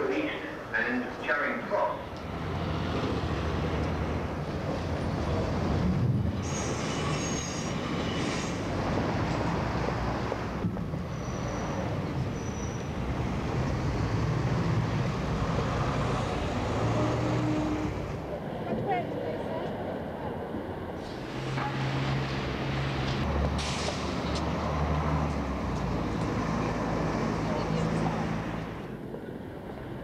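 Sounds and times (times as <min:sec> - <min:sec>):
heavy vehicles rumbling: 0:00.0 - 0:30.0.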